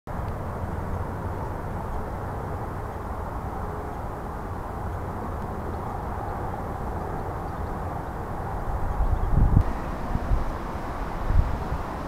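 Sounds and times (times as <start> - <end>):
low outdoor background noise: 0.1 - 12.0.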